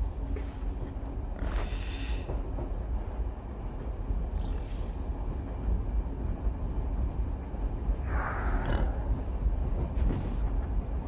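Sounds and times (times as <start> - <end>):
moving train rumble: 0.0 - 11.0.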